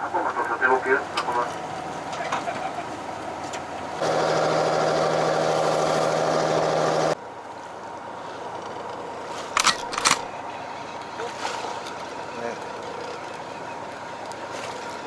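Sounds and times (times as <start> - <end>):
boat engine running: 0.0 - 7.2, 7.9 - 15.0.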